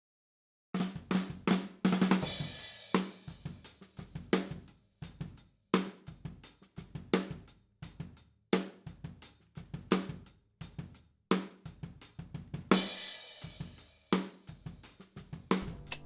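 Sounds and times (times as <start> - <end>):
drum kit playing a beat: 0.8 - 16.0.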